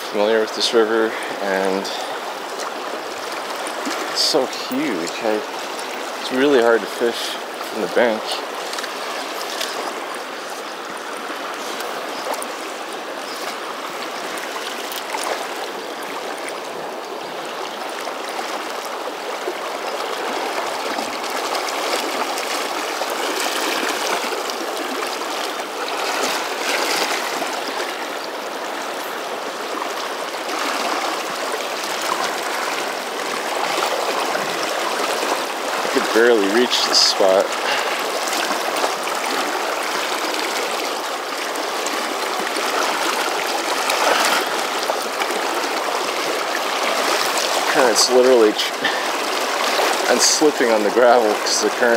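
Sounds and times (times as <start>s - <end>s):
fast-flowing river water: 0.0s - 51.9s.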